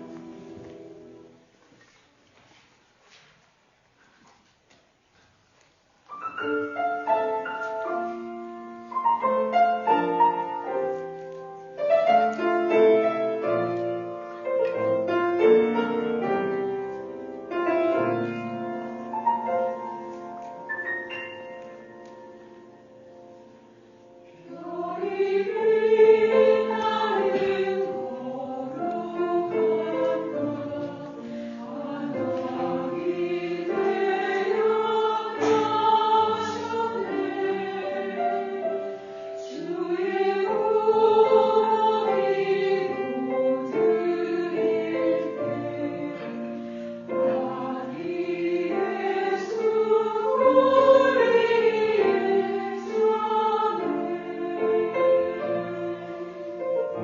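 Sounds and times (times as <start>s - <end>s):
church choir singing a hymn: 0.0s - 1.2s, 6.8s - 11.2s, 11.8s - 20.7s, 21.3s - 57.0s.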